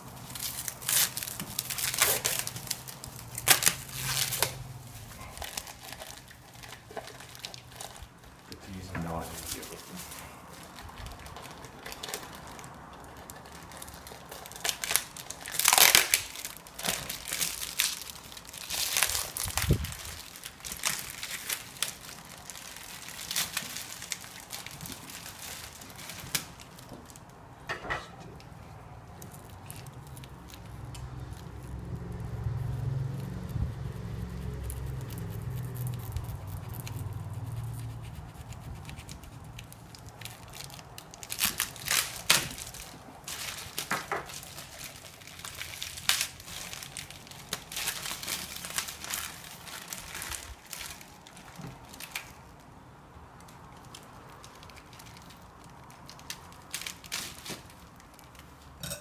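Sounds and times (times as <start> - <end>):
plastic wrap crinkling: 0.0 - 27.4, 28.4 - 33.2, 38.6 - 52.8, 53.4 - 59.0.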